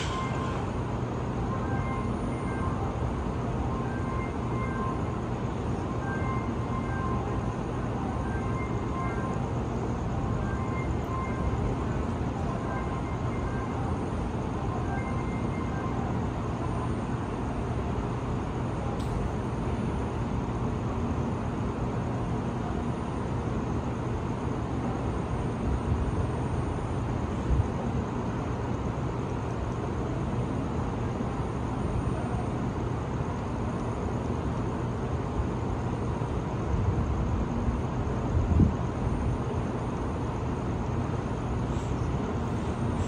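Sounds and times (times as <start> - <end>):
train equipment hum: 0.0 - 43.0.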